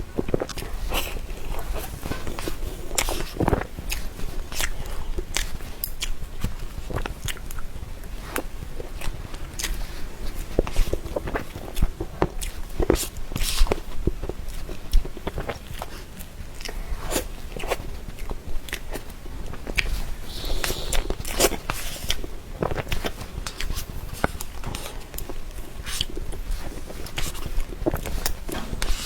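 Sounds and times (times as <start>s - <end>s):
mouth clicks and smacks chewing: 0.3s - 7.7s, 8.3s - 28.4s.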